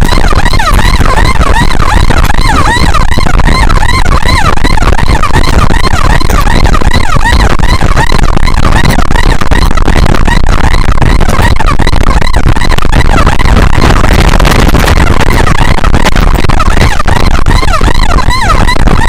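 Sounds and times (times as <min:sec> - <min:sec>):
electronic yelp sirens: 0:00.0 - 0:19.0.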